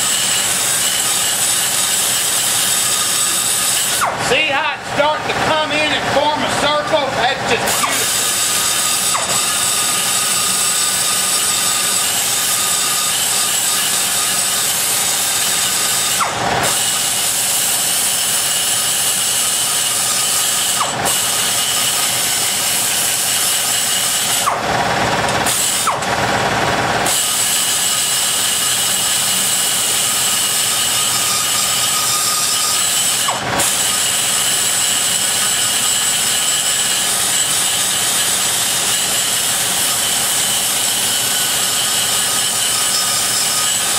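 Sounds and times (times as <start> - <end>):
die grinder cutting metal: 0.0 - 43.9.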